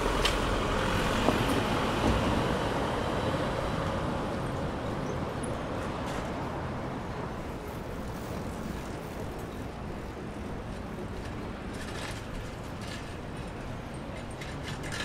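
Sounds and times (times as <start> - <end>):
city street noise: 0.0 - 15.0.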